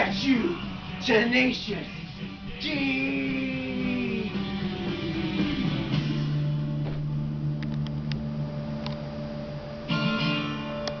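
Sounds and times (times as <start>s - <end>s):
rock music: 0.0s - 8.5s, 9.4s - 11.0s.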